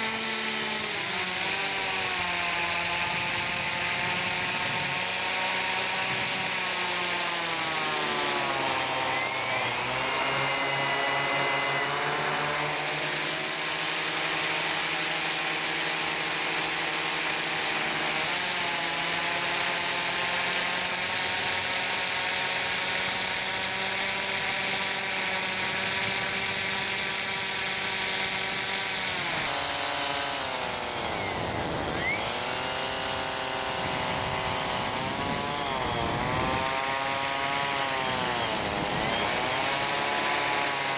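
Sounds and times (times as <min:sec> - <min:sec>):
propeller motors whining: 0:00.0 - 0:40.9.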